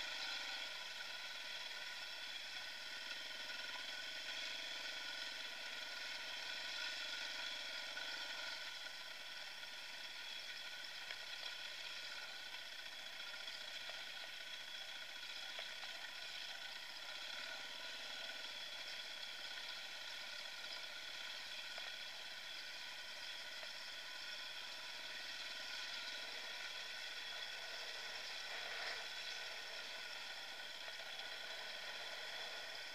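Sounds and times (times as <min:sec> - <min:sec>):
dirt bike engine running: 0:00.0 - 0:32.9.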